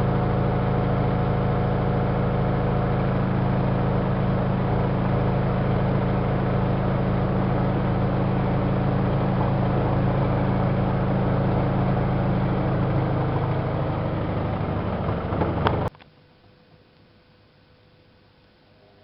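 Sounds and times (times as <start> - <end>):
washing machine spinning: 0.0 - 15.9.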